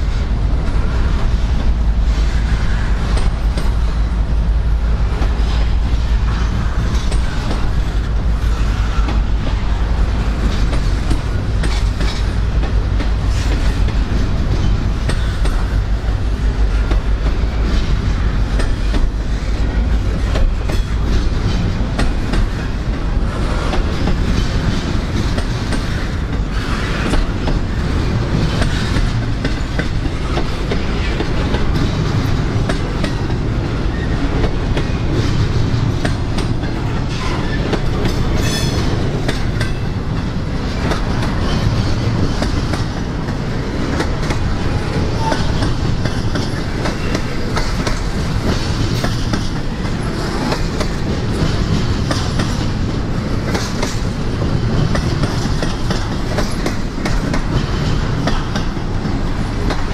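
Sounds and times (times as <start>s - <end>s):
train wheels rumbling: 0.0s - 59.9s
wheels clanking on rails: 0.0s - 59.9s.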